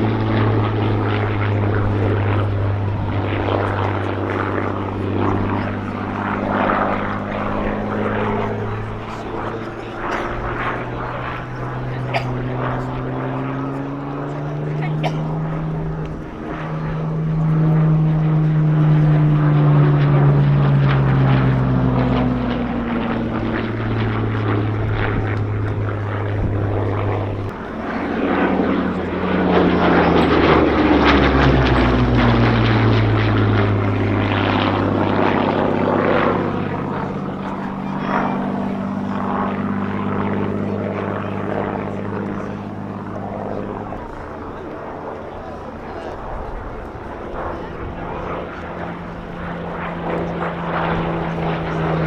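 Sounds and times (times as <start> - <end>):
propeller plane engine passing: 0.0 - 52.0.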